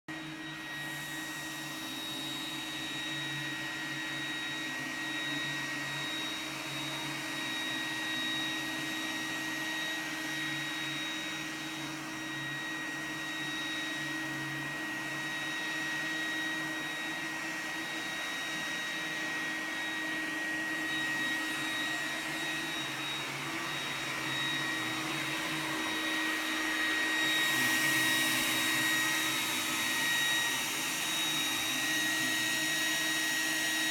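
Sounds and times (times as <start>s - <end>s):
robot vacuum whirring: 0.3s - 33.9s.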